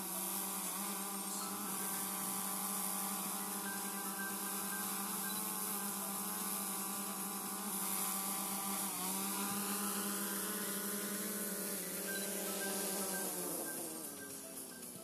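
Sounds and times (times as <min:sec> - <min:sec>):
quadcopter propellers humming: 0:00.0 - 0:15.0.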